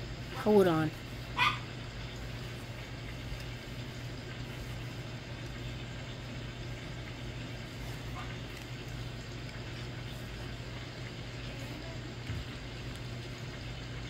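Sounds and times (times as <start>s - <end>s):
low room hum with hiss: 0.0s - 14.0s.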